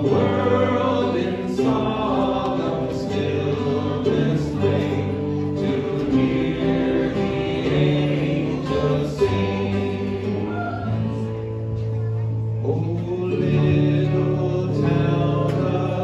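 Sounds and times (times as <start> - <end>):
voices singing a hymn: 0.0 - 11.7, 12.6 - 16.0
banjo: 0.0 - 16.0
strummed acoustic guitars: 0.0 - 16.0
ukulele: 0.0 - 16.0.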